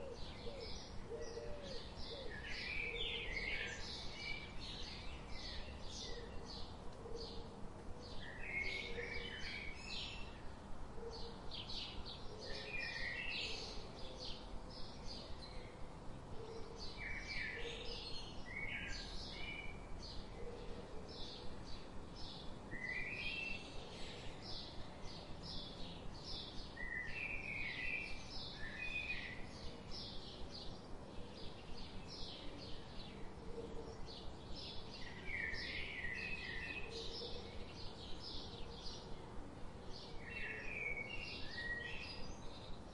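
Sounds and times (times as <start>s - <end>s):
lower birdsong phrase: 0.0s - 42.9s
soft steady hiss: 0.0s - 42.9s.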